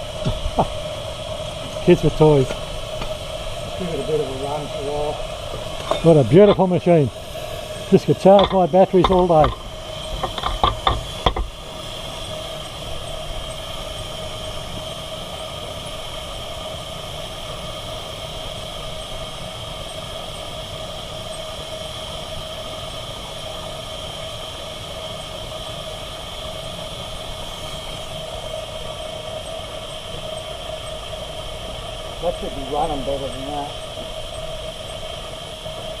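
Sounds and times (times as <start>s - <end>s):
steam engine hissing: 0.0s - 36.0s.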